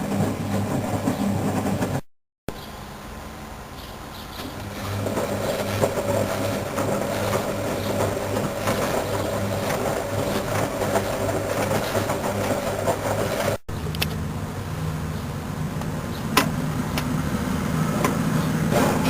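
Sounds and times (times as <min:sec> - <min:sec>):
washing machine motor humming: 0:00.0 - 0:02.0, 0:04.3 - 0:13.6, 0:14.3 - 0:19.0.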